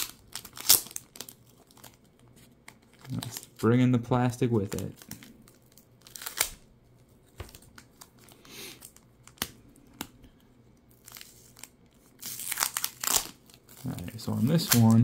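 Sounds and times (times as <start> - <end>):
tape being peeled: 0.0 - 3.8, 4.6 - 15.0
plastic sleeve crinkling: 0.0 - 9.5, 10.9 - 15.0.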